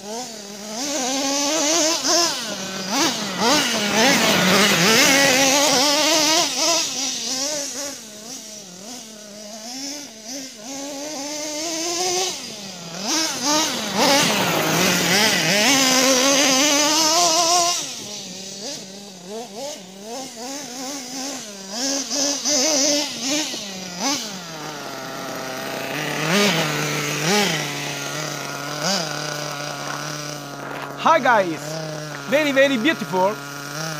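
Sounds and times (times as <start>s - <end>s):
engine idling with throttle blips: 0.0s - 33.9s
toy truck engine revving: 0.0s - 33.9s.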